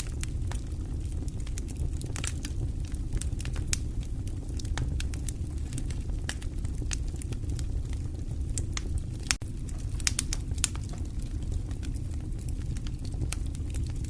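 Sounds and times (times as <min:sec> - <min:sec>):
fire crackling in a fireplace: 0:00.0 - 0:14.0.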